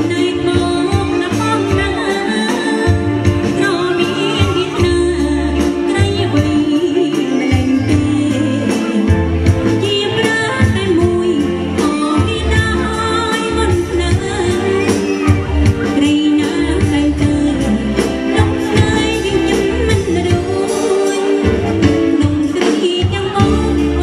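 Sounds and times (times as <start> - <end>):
band with electric guitar and bass: 0.0 - 24.0
woman singing into a microphone: 0.0 - 24.0.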